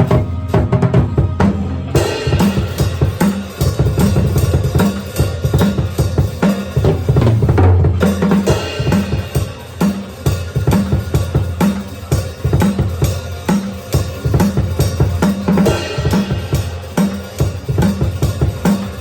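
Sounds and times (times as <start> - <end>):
fast drum kit playing: 0.0 - 19.0
metal song backing track: 0.0 - 19.0.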